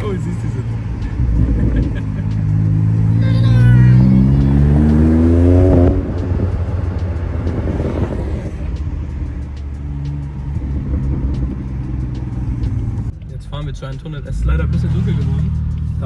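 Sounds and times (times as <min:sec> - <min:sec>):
car engine accelerating: 0:00.0 - 0:16.0
exhaust pops: 0:00.0 - 0:16.0.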